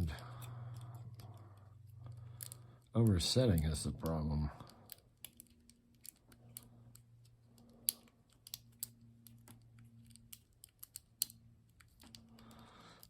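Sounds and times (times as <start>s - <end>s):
faint steady hum: 0.0s - 13.0s
metallic clicks of lock picking: 0.0s - 13.0s.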